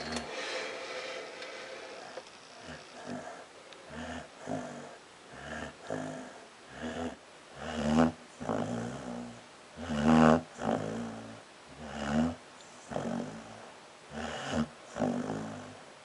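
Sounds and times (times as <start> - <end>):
dog snoring: 0.0 - 15.8.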